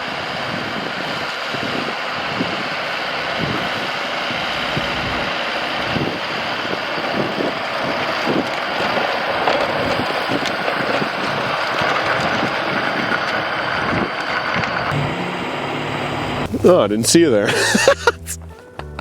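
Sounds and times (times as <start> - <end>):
tractor snowblower running: 0.0 - 18.4.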